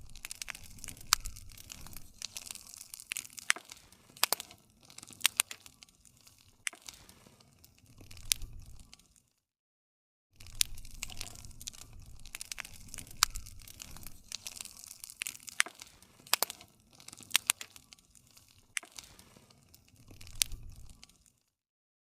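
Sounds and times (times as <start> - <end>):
campfire crackling: 0.0 - 9.3, 10.4 - 21.5.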